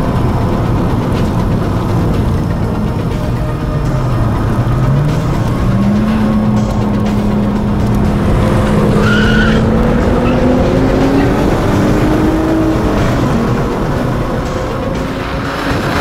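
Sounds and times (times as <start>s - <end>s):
car engine pulling under load: 0.0s - 16.0s
high squeal: 0.9s - 16.0s.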